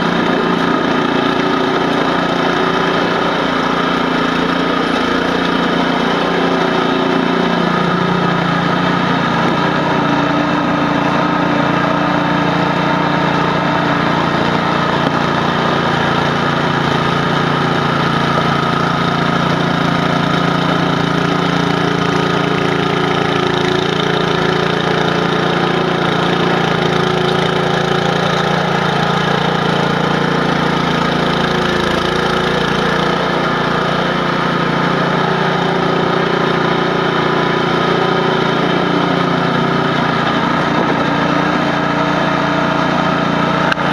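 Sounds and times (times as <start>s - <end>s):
snowblower engine running: 0.0s - 43.9s.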